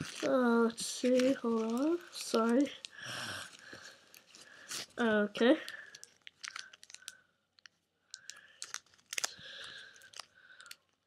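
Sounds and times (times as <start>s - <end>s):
soft rustle of packaging: 0.0s - 11.0s.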